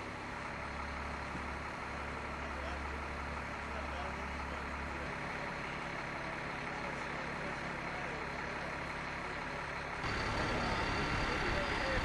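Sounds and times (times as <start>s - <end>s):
low engine hum: 0.0s - 12.0s
outdoor background noise: 0.0s - 12.0s
street noise: 0.0s - 12.0s.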